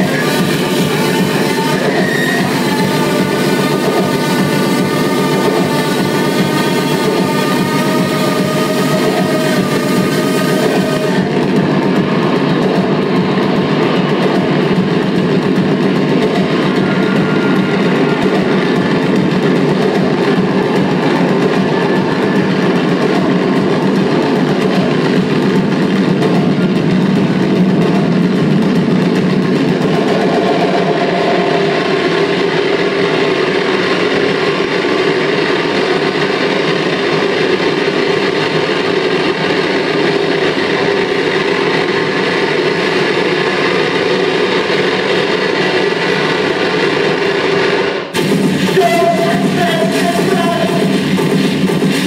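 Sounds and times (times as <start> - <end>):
harsh electronic noise music: 0.0 - 52.0
low drone: 0.0 - 52.0.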